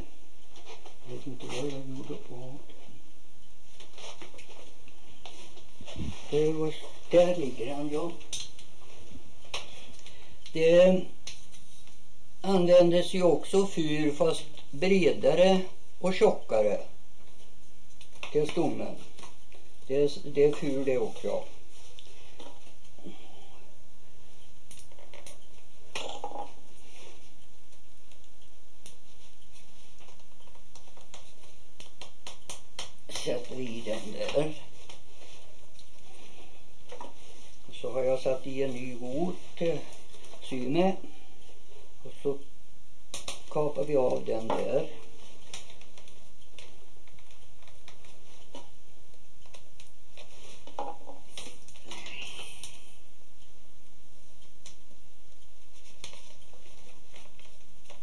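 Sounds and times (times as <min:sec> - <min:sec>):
steady low hum: 0:00.0 - 0:58.0
pine strips rustling and crackling: 0:00.4 - 0:23.3, 0:26.6 - 0:42.5, 0:43.1 - 0:53.6, 0:54.2 - 0:58.0.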